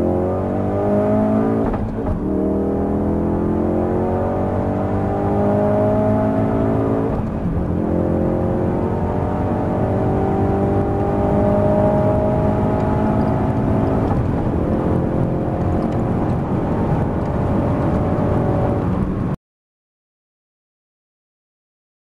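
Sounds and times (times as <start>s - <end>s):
car engine accelerating hard: 0.0s - 19.4s.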